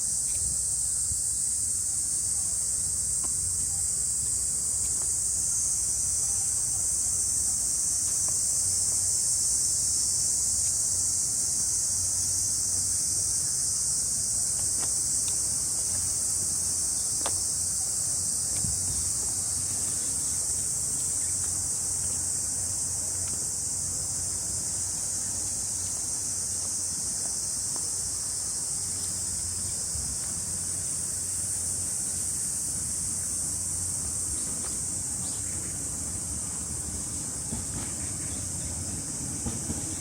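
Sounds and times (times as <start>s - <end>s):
cicadas shrilling: 0.0s - 40.0s.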